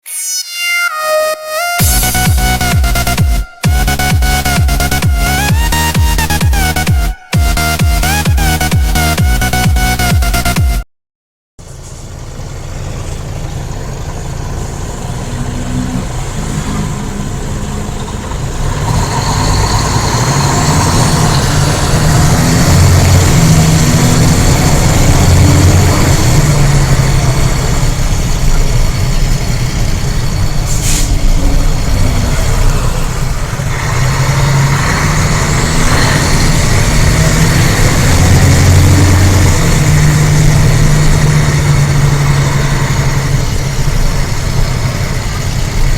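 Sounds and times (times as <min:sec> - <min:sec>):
high whine: 0:00.0 - 0:10.8, 0:15.9 - 0:45.6
bus diesel engine under load: 0:01.8 - 0:10.8, 0:11.6 - 0:45.9.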